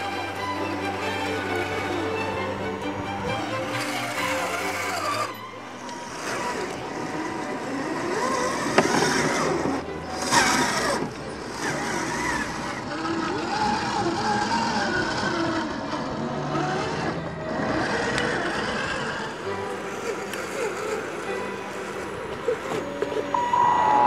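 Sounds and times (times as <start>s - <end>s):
rc truck motor whining: 0.0s - 24.0s.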